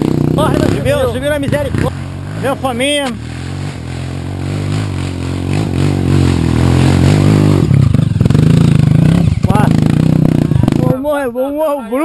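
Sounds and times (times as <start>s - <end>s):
dirt bike engine under throttle: 0.0s - 11.2s.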